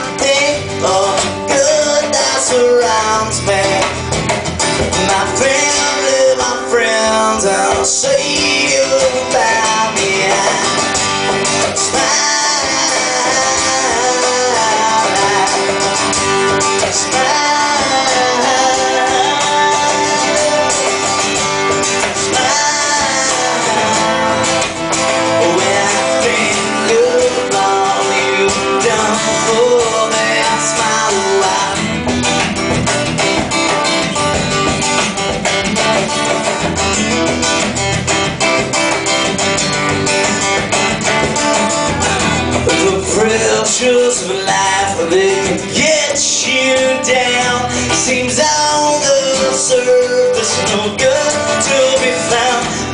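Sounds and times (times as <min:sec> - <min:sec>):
bass and drums: 0:00.0 - 0:52.9
lead guitar melody: 0:00.0 - 0:52.9.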